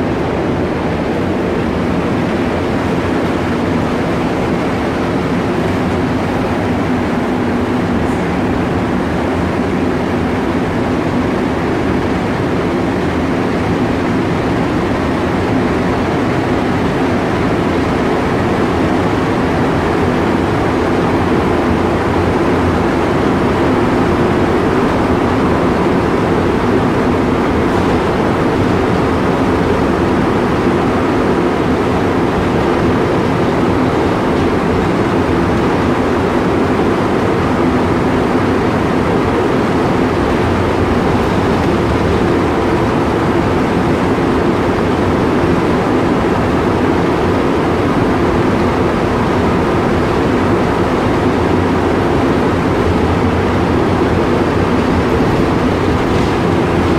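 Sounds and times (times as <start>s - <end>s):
subway train rumbling in tunnel: 0.0s - 56.9s.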